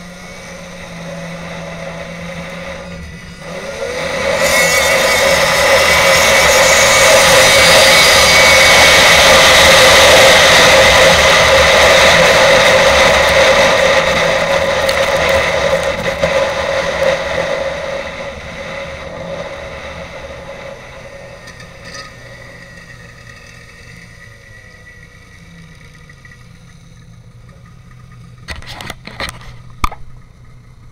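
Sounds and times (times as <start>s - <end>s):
snowmobile engine: 0.0s - 30.9s.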